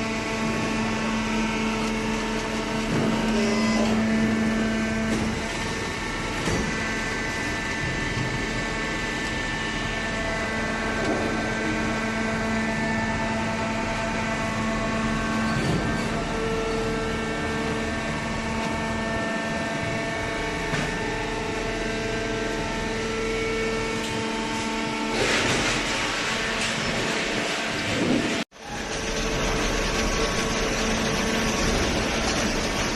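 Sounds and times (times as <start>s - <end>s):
hydraulic baler motor hum: 0.0s - 32.9s.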